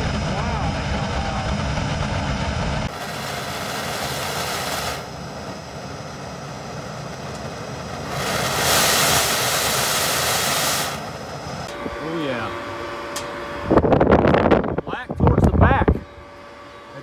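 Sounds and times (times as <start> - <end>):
rocket burner firing: 0.0 - 16.6.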